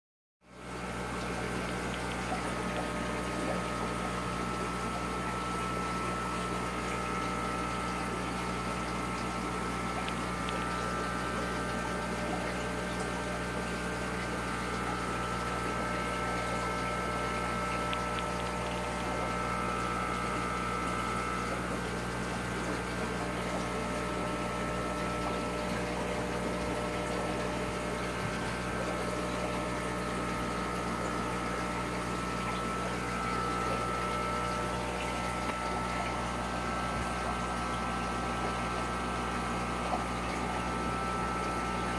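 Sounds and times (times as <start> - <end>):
aquarium pump humming: 0.4 - 41.9
water noise: 0.6 - 41.9.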